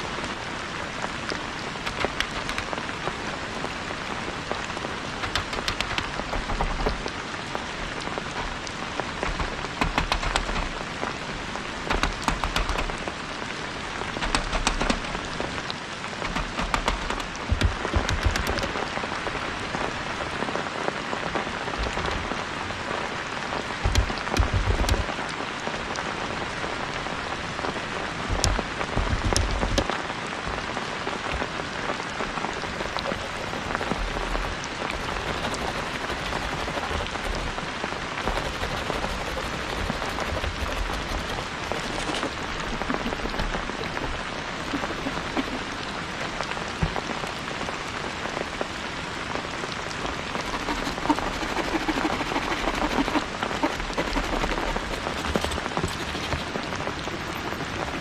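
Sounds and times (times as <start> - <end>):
sharp raindrop hits: 0.0 - 47.8
steady rain falling: 0.0 - 58.0.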